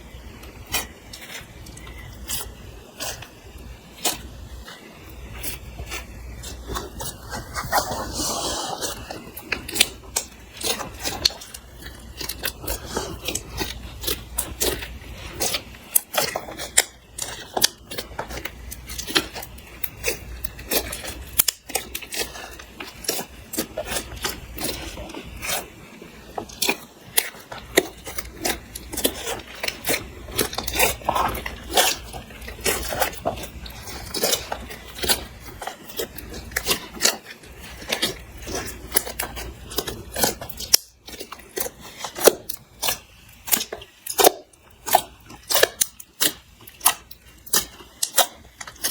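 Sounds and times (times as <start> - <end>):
slime squished by hand: 0.3 - 48.9.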